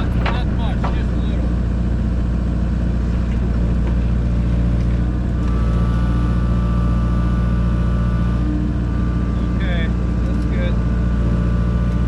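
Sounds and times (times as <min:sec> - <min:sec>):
excavator diesel engine running: 0:00.0 - 0:12.0
steady high whine: 0:00.0 - 0:12.0.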